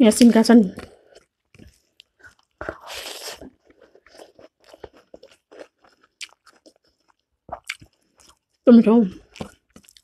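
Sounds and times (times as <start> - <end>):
person chewing crunchy food: 0.6 - 10.0.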